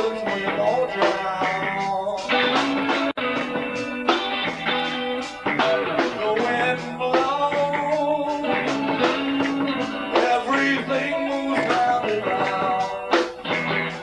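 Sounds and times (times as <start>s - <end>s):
bass guitar: 0.0s - 14.0s
drums: 0.0s - 14.0s
electric guitar bending notes: 0.0s - 14.0s.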